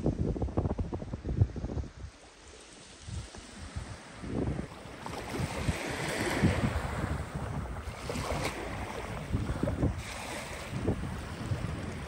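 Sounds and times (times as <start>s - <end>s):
wind buffeting microphone: 0.0s - 12.0s
small waves lapping on sand: 1.0s - 12.0s.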